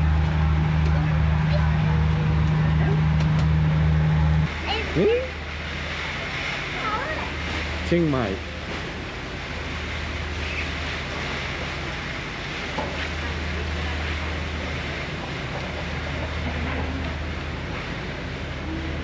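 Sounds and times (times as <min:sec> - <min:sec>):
idling train hum: 0:00.0 - 0:19.0.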